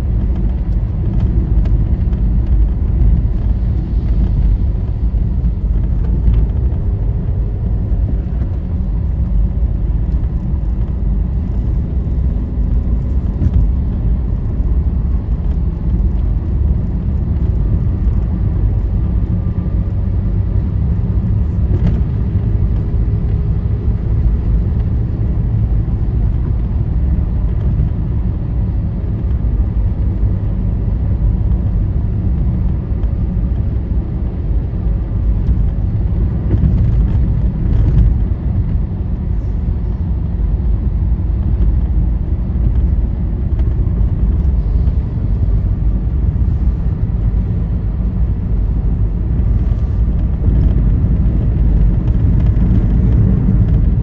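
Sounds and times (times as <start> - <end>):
vehicle engine and tyres rumbling: 0.0 - 54.0.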